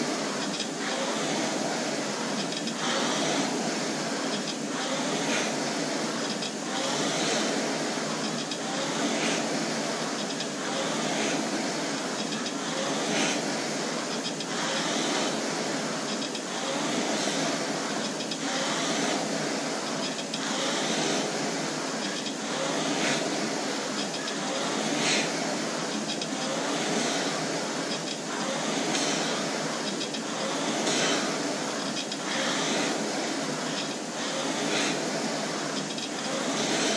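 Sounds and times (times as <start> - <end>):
rowing machine flywheel whirring: 0.0 - 36.9.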